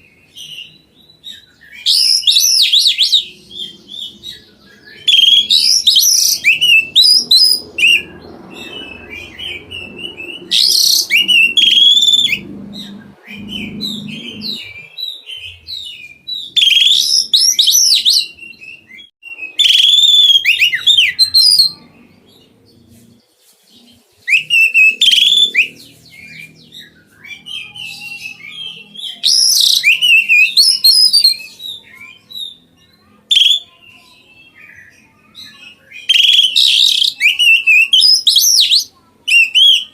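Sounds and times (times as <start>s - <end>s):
bird singing whistled phrases: 0.0s - 21.8s, 24.2s - 32.7s, 33.3s - 39.9s.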